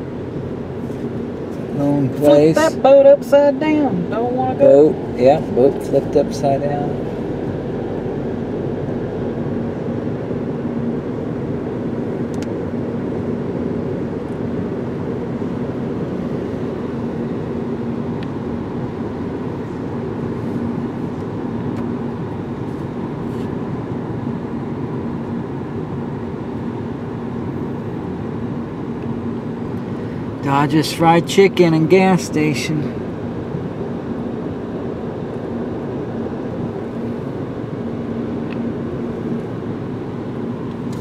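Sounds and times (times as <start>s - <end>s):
car road and engine noise: 0.0s - 41.0s
faint steady hum: 0.0s - 41.0s.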